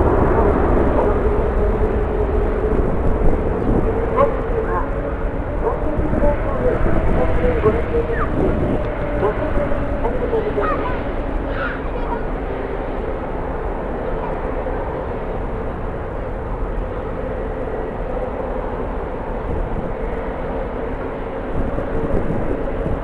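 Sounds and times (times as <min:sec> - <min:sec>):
jet engines running: 0:00.0 - 0:23.0
wind rumble on microphone: 0:00.0 - 0:23.0.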